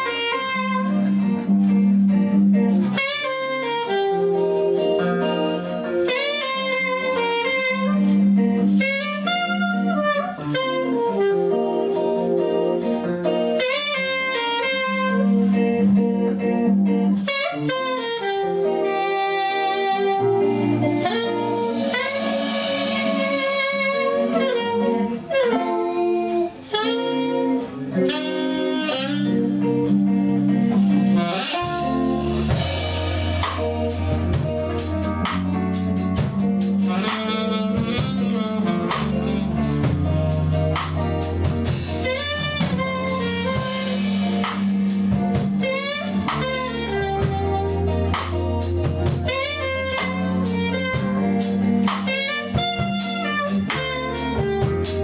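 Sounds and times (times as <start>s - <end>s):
bass and drum kit: 0.0s - 55.0s
guitar and keyboard chords: 0.0s - 55.0s
saxophone melody with vibrato: 0.0s - 55.0s.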